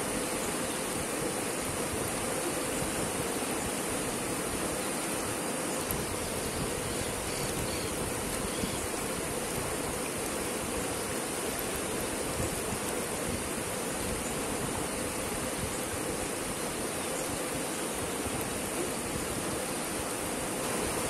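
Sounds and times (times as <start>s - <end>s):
river rippling over rocks: 0.0s - 21.0s.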